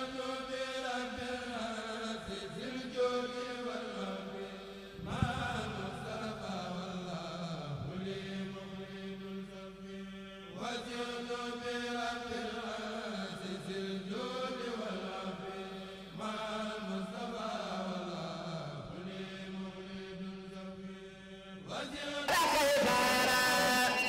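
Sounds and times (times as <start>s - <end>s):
person chanting: 0.0s - 24.0s.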